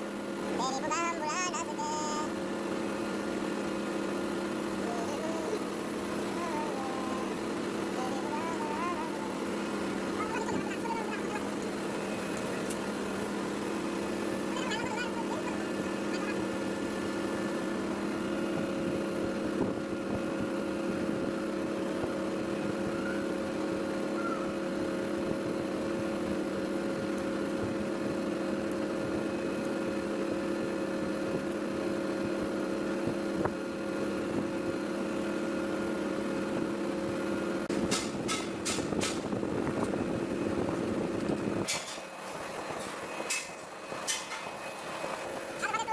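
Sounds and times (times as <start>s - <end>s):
electric motor humming: 0.0s - 45.9s.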